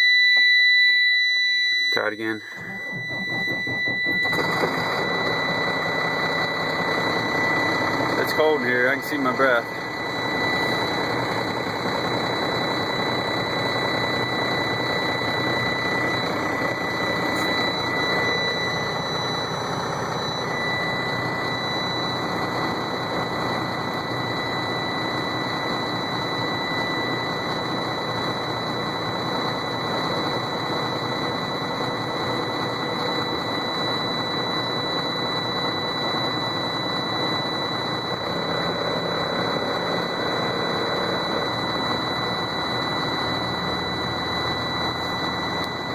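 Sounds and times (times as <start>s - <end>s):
high-pitched warning buzzer: 0.0s - 45.9s.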